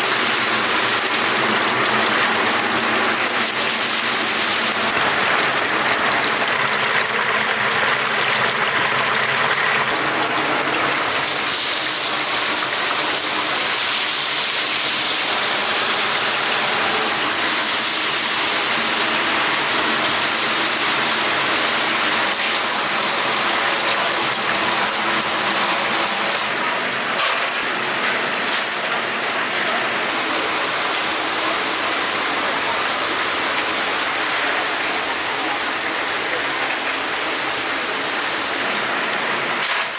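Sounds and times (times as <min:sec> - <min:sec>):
oil sizzling: 0:00.0 - 0:39.9.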